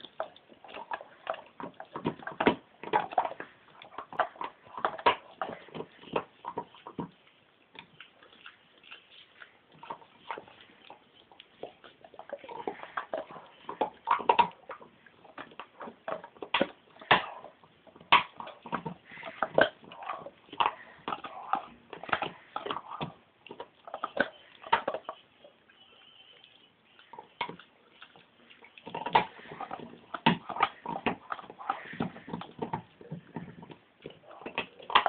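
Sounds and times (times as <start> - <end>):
dog teeth gnawing on antler: 0.0 - 25.3, 27.0 - 35.0.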